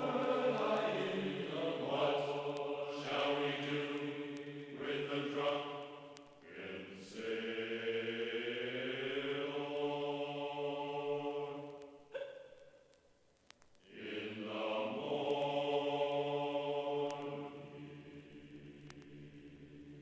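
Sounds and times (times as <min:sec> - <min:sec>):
choir chanting sustained chords: 0:00.0 - 0:12.5, 0:13.8 - 0:20.0.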